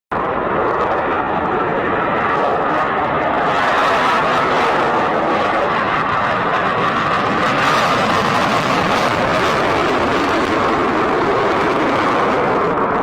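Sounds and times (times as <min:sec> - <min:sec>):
jet engines roaring: 0:00.1 - 0:13.0.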